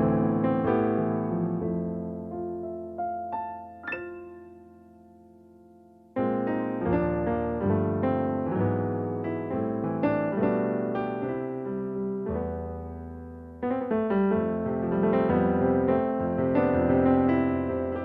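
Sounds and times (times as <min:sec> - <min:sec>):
digital piano playing: 0:00.0 - 0:18.0.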